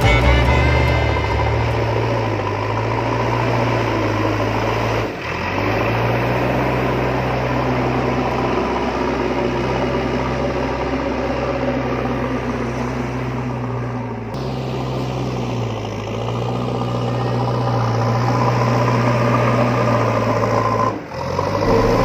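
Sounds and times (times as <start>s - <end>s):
miniature vehicle motors droning: 0.0s - 22.0s.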